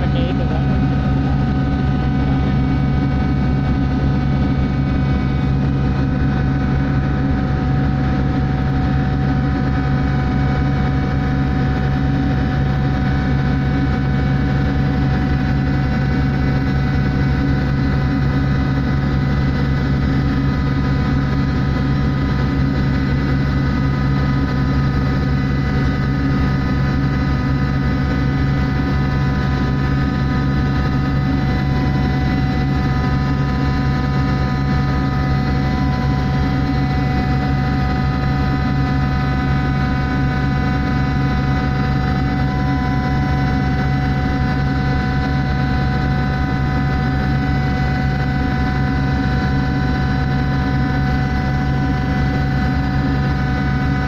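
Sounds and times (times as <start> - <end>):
ship machinery drone: 0.0 - 54.0.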